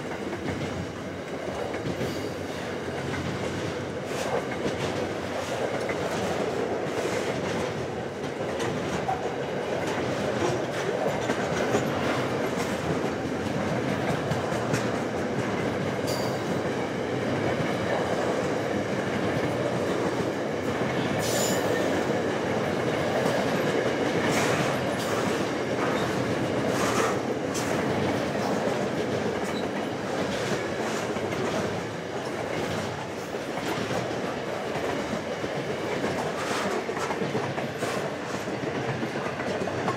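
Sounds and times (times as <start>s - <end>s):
freight train rumbling past: 0.0s - 39.9s
train clanks: 0.0s - 39.9s
wheels clacking over rail joints: 0.0s - 39.9s.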